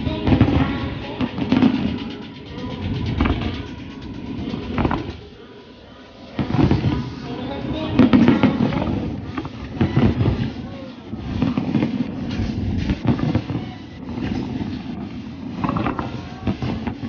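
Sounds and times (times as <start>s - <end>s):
firework shells bursting: 0.0s - 5.4s, 6.2s - 17.0s
continuous low rumble: 0.0s - 17.0s.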